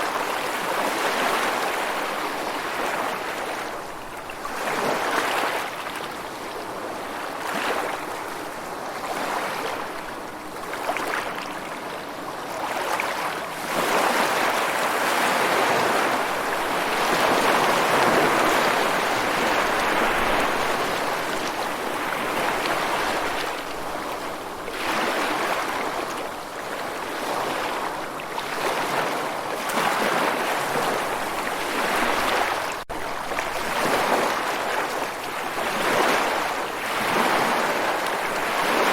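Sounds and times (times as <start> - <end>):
rushing water surges: 0.0 - 38.9.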